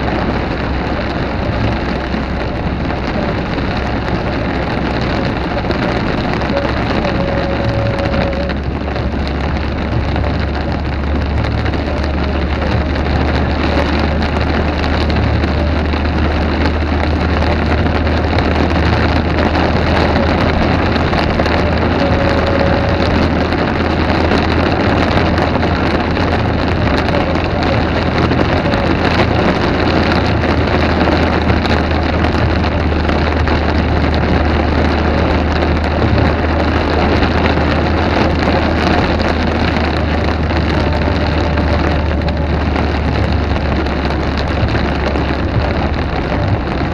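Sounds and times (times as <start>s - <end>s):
heavy rain falling: 0.0s - 46.9s
low rumble: 0.0s - 46.9s.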